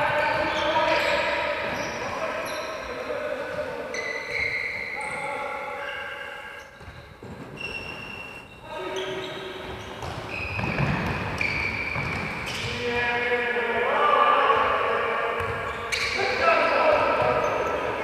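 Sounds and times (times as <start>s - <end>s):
shoes squeaking on wooden floor: 0.0s - 12.9s, 15.4s - 18.0s
players calling: 0.0s - 18.0s.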